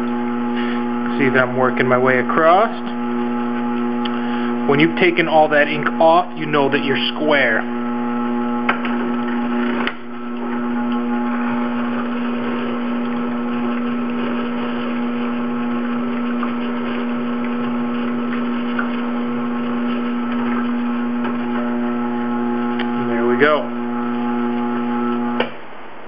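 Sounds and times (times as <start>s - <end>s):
sharpening machine motor hum: 0.0s - 26.0s.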